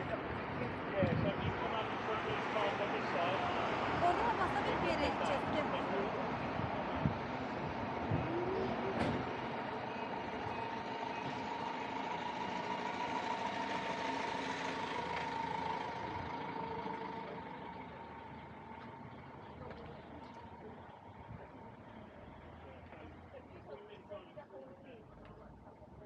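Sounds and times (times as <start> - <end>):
van engine humming with whine: 0.0 - 26.0.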